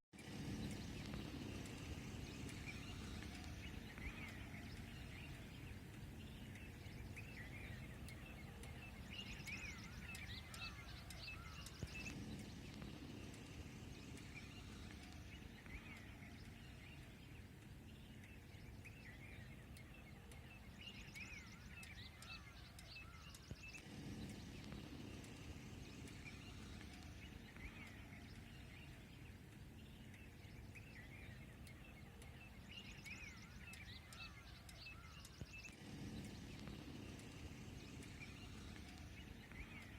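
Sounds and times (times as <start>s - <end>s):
birds chirping: 0.2s - 39.9s
low steady outdoor rumble: 0.2s - 39.9s.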